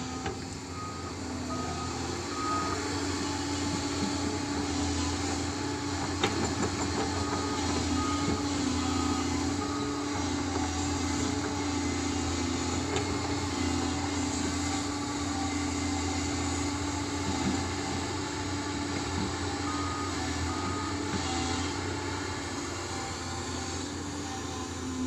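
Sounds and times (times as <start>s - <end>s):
engine drone: 0.0s - 25.0s.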